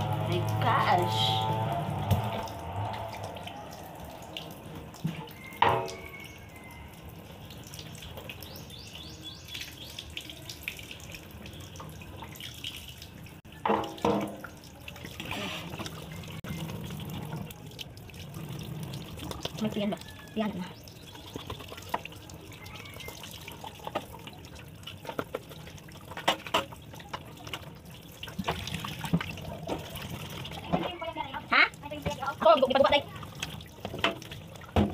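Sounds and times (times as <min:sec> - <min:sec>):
meat washed by hand: 0:00.0 - 0:34.9
tap water running into basin: 0:00.0 - 0:34.9.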